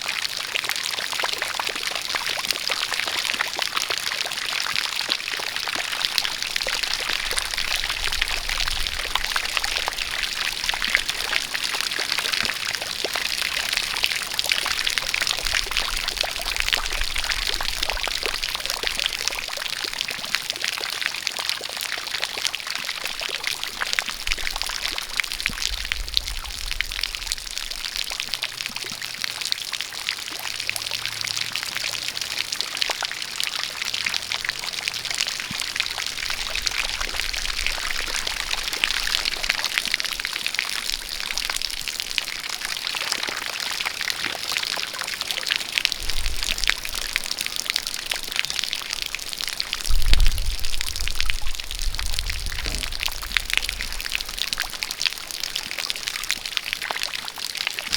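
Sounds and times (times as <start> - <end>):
dense rain falling: 0.0 - 57.9
jet of water pouring: 0.0 - 57.9.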